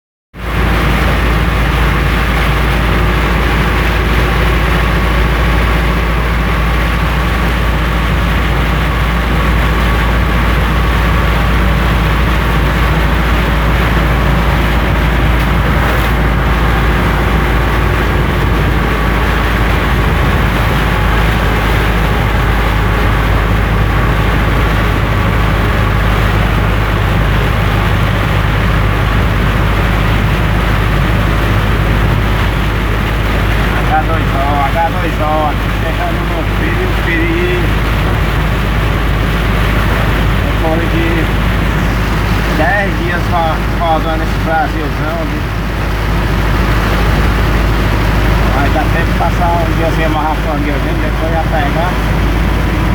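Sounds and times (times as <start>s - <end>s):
vehicle engine running: 0.3s - 52.9s.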